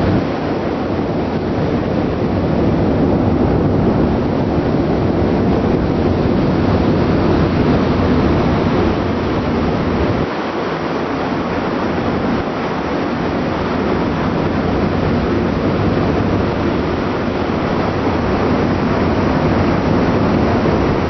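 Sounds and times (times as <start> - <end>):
ship rumble: 0.0 - 21.0
wind buffeting microphone: 0.0 - 21.0.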